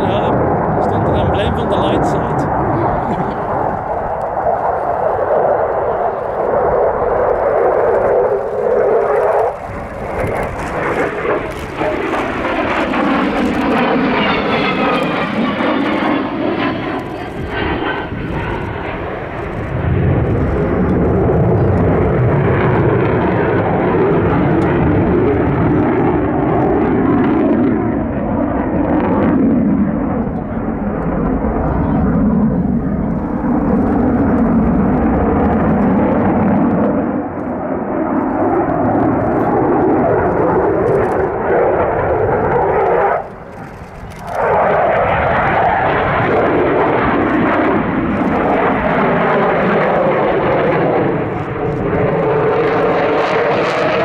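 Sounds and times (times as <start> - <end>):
jet engine roaring: 0.0 - 54.0.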